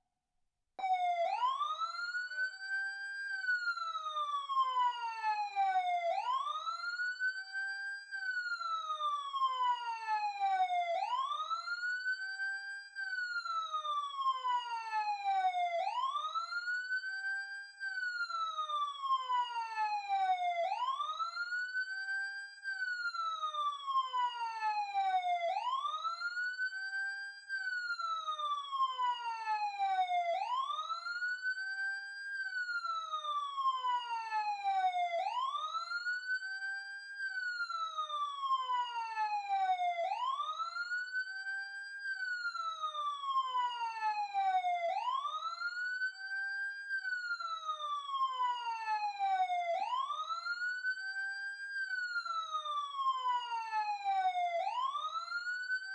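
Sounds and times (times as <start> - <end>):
emergency siren wailing: 0.8 - 55.9.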